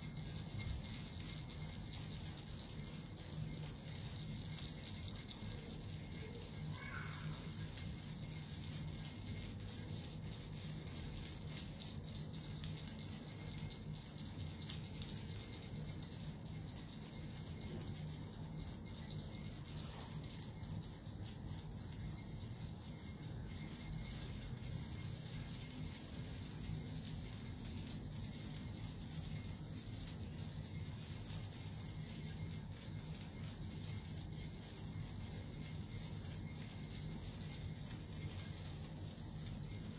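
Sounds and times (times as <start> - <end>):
small jingle bells shaken: 0.0 - 39.9.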